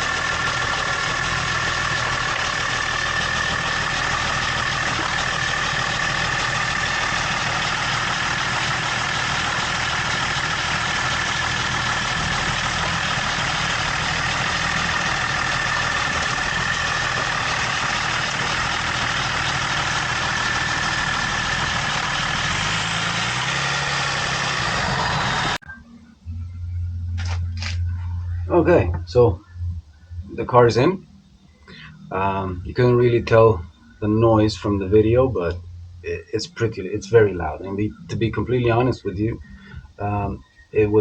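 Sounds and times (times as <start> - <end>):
road noise: 0.0 - 25.7, 26.8 - 41.0
car engine: 0.0 - 41.0.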